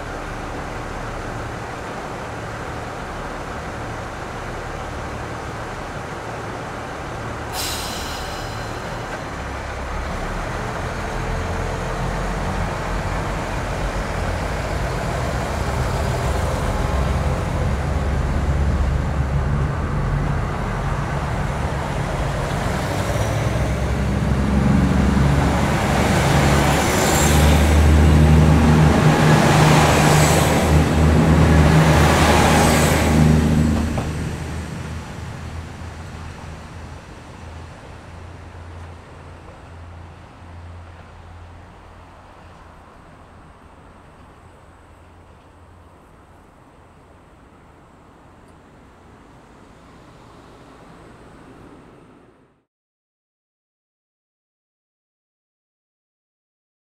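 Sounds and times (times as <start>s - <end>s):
diesel train engine throbbing: 0.0s - 47.2s.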